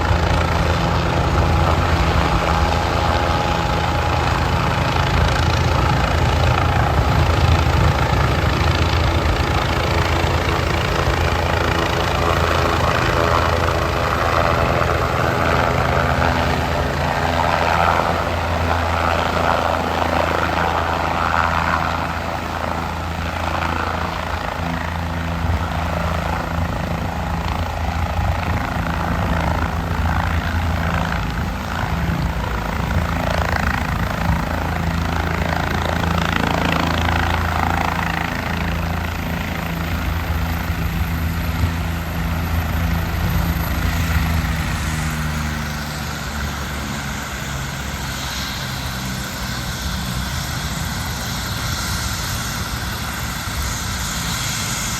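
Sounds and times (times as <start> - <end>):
helicopter rotor and turbine: 0.0 - 54.9.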